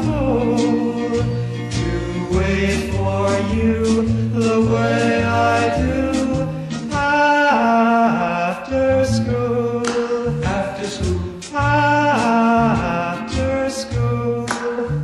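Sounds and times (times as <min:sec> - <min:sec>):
pop song with male singer: 0:00.0 - 0:15.0.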